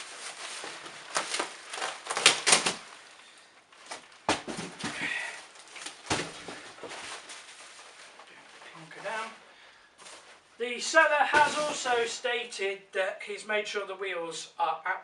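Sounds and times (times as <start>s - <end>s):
wrapping rustling and scraping: 0.0s - 12.2s.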